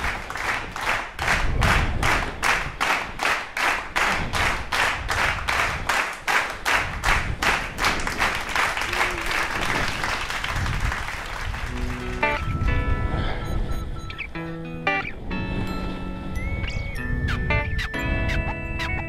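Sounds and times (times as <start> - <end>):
wind rumble on microphone: 0.0 - 14.4, 15.1 - 19.0.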